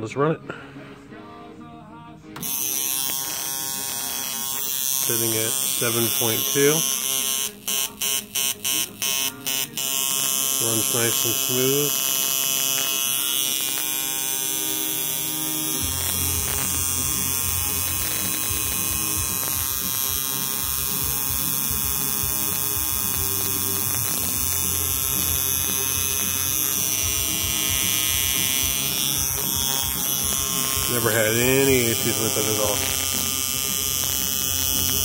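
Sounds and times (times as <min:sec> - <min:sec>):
tattoo machine buzzing: 0:02.4 - 0:35.0.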